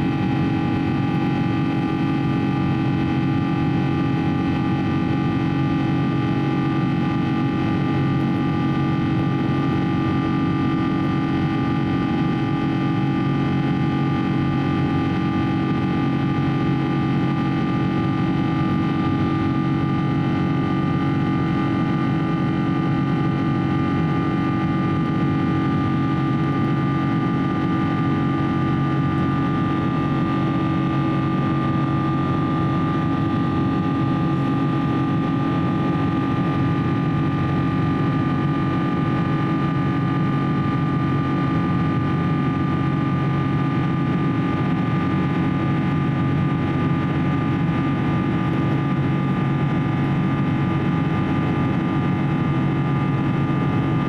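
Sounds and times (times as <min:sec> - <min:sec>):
constant humming tones: 0:00.0 - 0:54.0
jet engine drone: 0:00.0 - 0:54.0.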